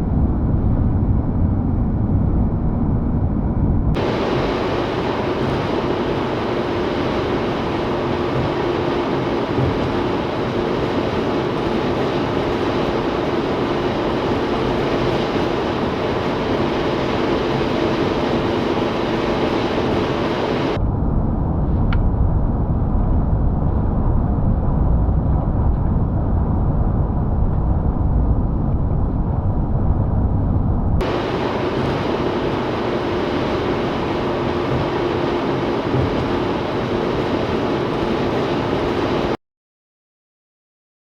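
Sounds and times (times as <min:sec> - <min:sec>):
faint steady hum: 0:00.0 - 0:29.5, 0:30.3 - 0:39.4
dull low rumble: 0:00.0 - 0:38.1
highway road and wind noise: 0:00.0 - 0:39.4.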